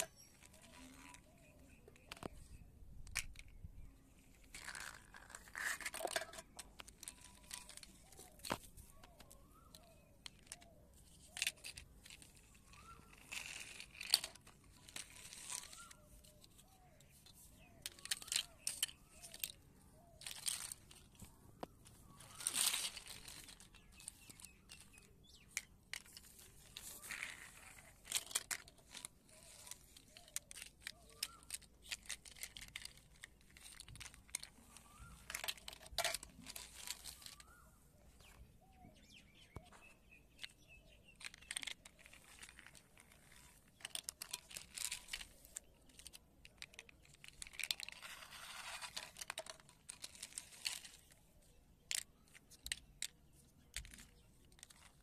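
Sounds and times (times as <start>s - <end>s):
plastic toys clicking together: 0.0s - 37.7s, 40.3s - 55.0s
faint bird chirps: 0.0s - 49.2s.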